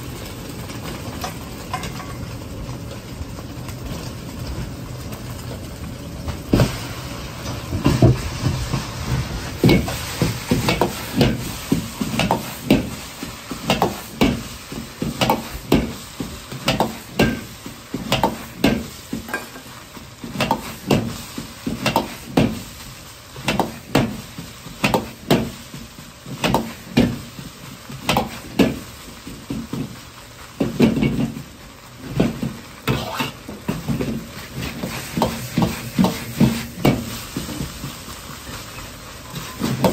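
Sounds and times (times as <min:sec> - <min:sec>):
food sizzling: 0:00.0 - 0:39.9.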